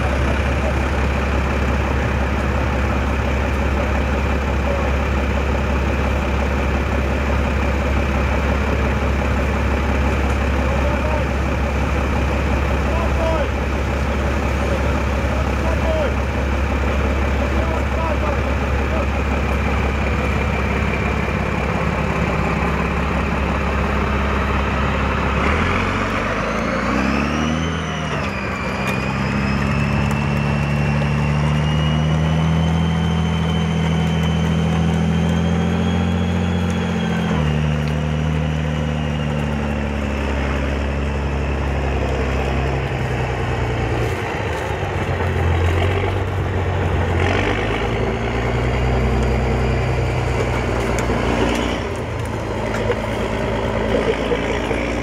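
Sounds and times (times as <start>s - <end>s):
high whine: 0.0s - 55.0s
military vehicle engine revving: 0.0s - 55.0s.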